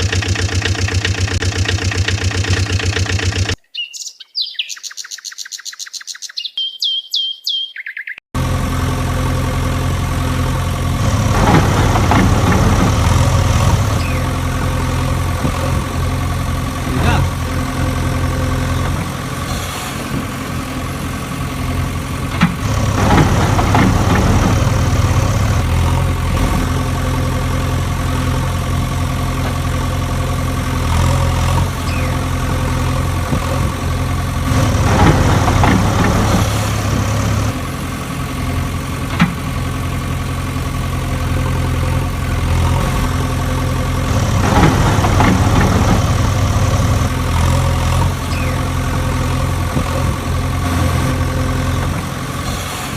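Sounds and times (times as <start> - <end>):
engine idling: 0.0 - 3.6, 8.4 - 52.9.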